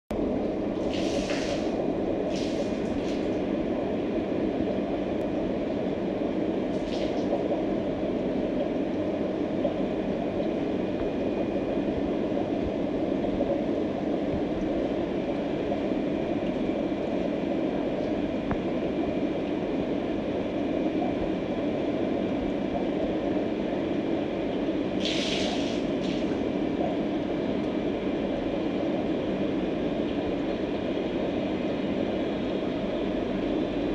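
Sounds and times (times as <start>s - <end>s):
aquarium filter pump droning: 0.2s - 33.9s.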